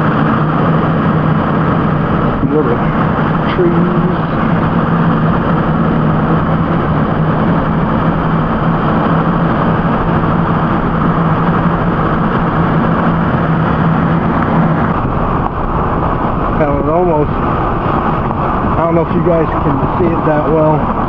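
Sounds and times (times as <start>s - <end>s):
tyre and wind noise: 0.0s - 18.8s, 19.5s - 21.0s
vehicle engine drone: 0.0s - 21.0s.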